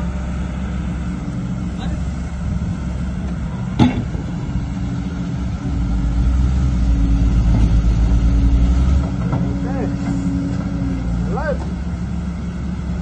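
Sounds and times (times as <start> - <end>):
heavy diesel machinery droning: 0.0 - 13.0.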